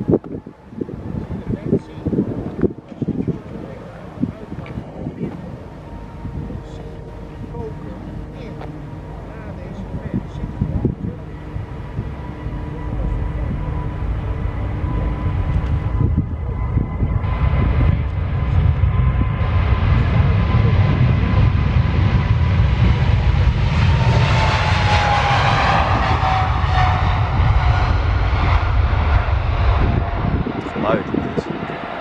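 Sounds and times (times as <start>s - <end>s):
engine fan whine: 0.0s - 32.0s
jet engine rumble: 0.0s - 32.0s.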